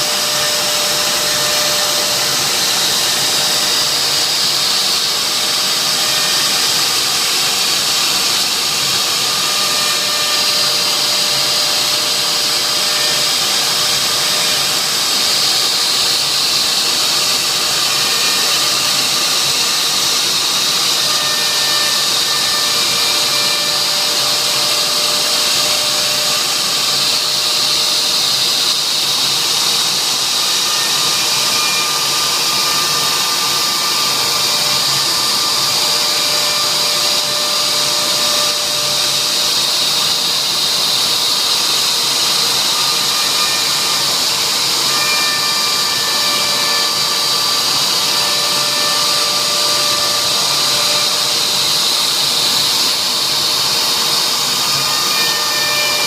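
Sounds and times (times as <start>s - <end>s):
router spindle carving wood: 0.0s - 56.0s.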